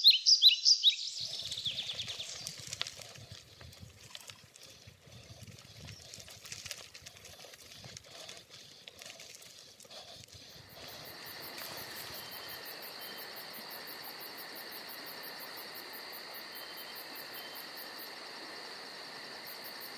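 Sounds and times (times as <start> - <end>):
insects chirring: 0.0 - 19.9.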